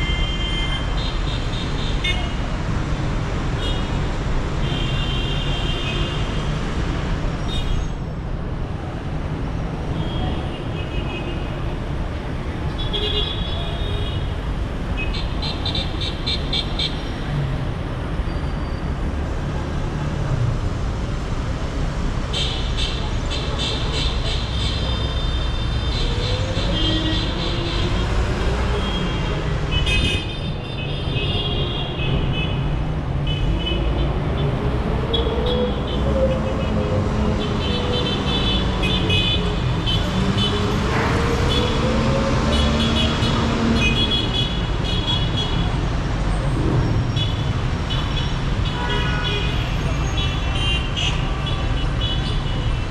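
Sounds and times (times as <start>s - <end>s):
traffic rumble: 0.0s - 52.9s.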